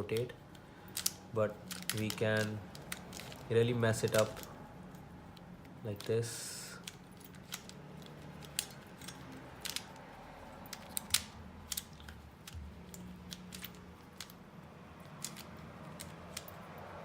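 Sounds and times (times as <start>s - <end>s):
puzzle cube plastic clicks: 0.0s - 4.6s, 5.4s - 16.6s.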